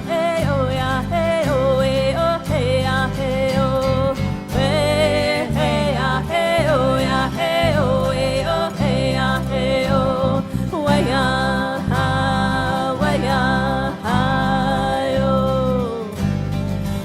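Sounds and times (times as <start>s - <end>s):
person singing long notes: 0.0s - 16.2s.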